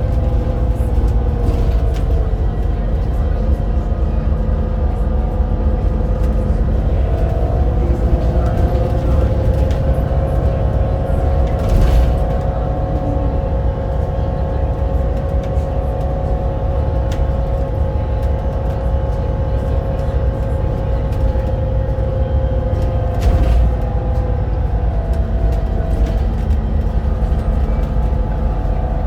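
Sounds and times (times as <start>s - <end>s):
bus bumps: 0.0s - 29.0s
bus engine low rumble: 0.0s - 29.0s
drivetrain whine: 0.0s - 29.0s.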